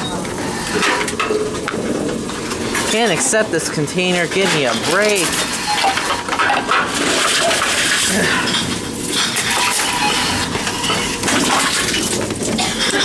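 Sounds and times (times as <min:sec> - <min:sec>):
cans and bottles clinking: 0:00.0 - 0:13.0
vending machines running: 0:00.0 - 0:13.0.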